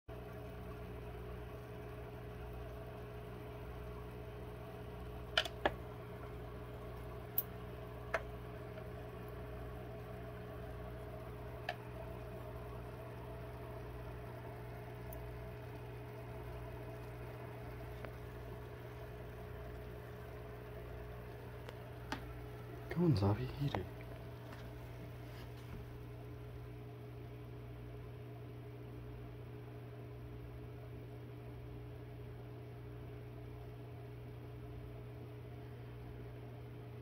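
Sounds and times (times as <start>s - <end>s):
aquarium equipment humming: 0.1s - 37.0s.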